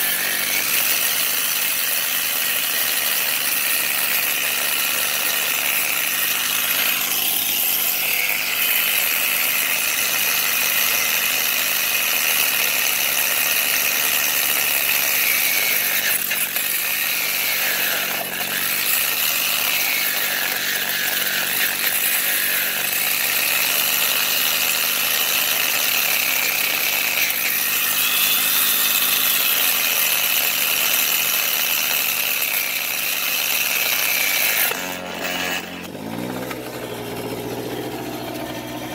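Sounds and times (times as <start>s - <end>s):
angle grinder cutting metal: 0.0s - 38.9s.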